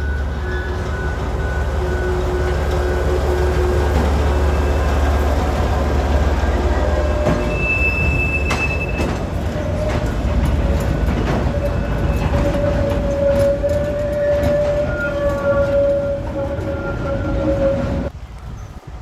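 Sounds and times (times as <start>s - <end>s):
train wheels squealing: 0.0s - 18.8s
train rumbling on rails: 0.0s - 19.0s
train wheel clicks: 0.2s - 18.1s.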